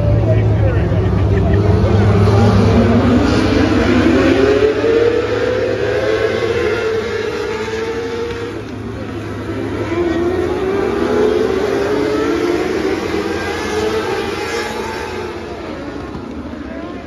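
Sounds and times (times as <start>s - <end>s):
sprint car engines revving: 0.0s - 17.0s.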